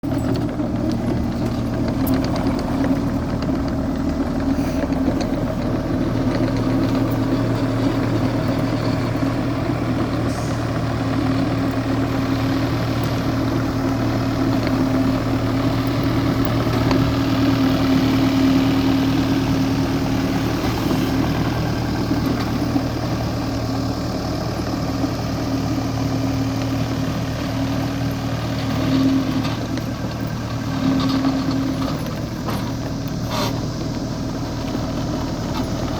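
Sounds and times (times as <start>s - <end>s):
diesel engine idling: 0.0s - 35.9s.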